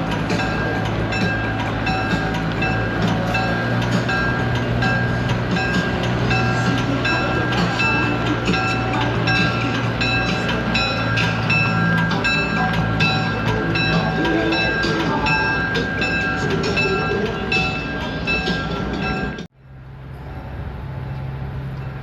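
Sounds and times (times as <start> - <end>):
locomotive bell ringing: 0.0 - 19.5
diesel engine idling hum: 0.0 - 22.0.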